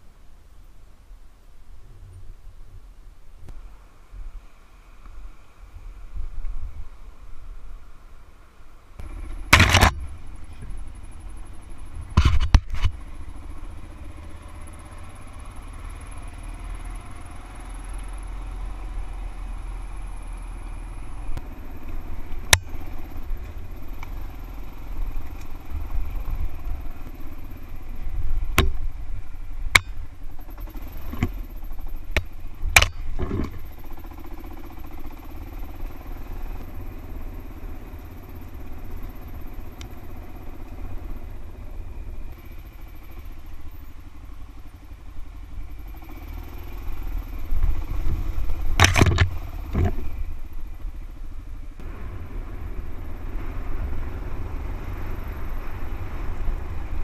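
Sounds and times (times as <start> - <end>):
motorcycle engine rumble: 0.0 - 57.0.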